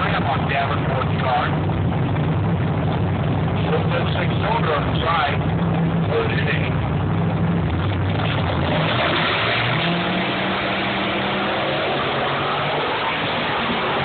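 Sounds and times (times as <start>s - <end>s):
drag car engines accelerating: 0.0s - 14.0s.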